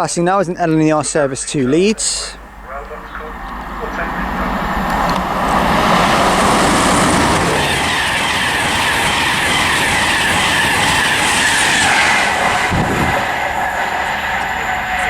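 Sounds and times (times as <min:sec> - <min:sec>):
faint rail clatter: 0:00.0 - 0:15.0
train rushing past: 0:00.0 - 0:15.0.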